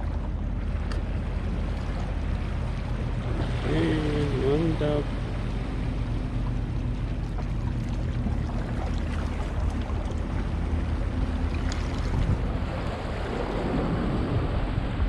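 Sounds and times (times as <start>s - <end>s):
boat motor hum: 0.0s - 15.0s
water noise: 0.0s - 15.0s
wind: 0.0s - 15.0s.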